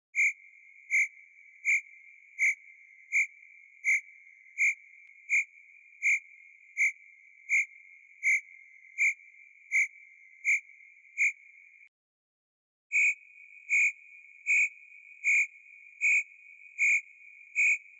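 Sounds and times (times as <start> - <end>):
cricket chirping: 0.2 - 11.9, 13.0 - 17.9.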